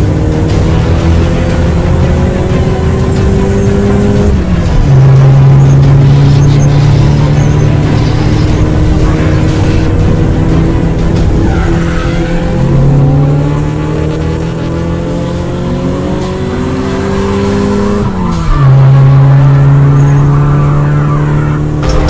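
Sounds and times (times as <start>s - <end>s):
race car engines running hard: 0.0s - 22.0s.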